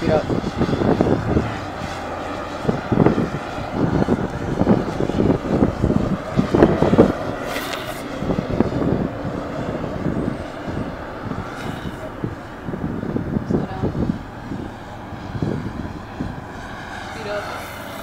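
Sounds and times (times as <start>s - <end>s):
road noise on asphalt: 0.0s - 18.0s
wind buffeting microphone: 0.0s - 18.0s.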